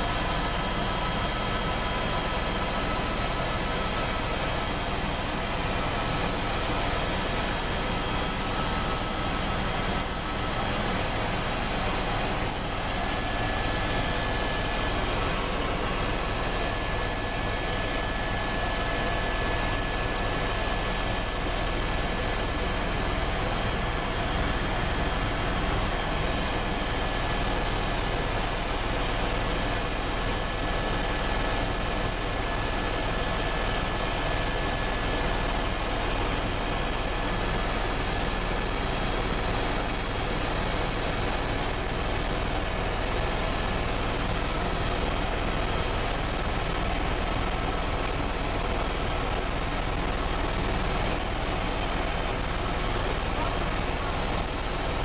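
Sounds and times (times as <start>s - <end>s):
helicopter turbine and rotor: 0.0s - 55.0s.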